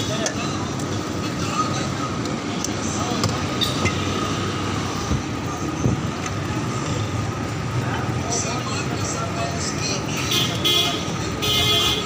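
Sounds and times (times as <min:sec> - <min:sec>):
people talking: 0:00.0 - 0:03.8, 0:05.1 - 0:12.0
street rumble: 0:00.0 - 0:12.0.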